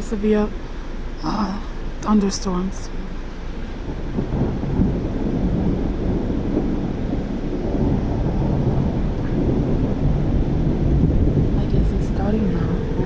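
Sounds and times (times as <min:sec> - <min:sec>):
low rumble of thunder: 0:00.0 - 0:13.0.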